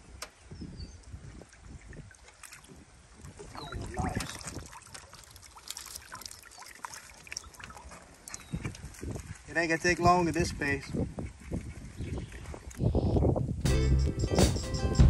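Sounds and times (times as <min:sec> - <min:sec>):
water trickling and splashing: 0:00.1 - 0:13.1.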